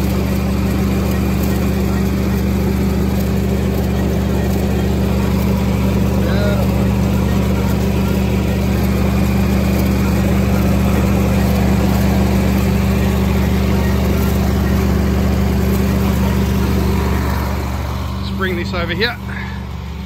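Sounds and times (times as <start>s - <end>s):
harvester engine humming: 0.0s - 20.0s.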